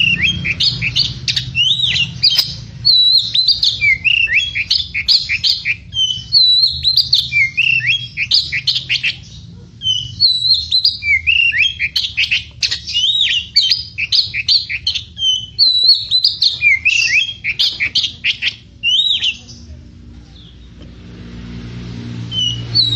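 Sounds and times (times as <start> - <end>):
bird singing whistles and chatter: 0.0 - 19.7, 22.3 - 22.9.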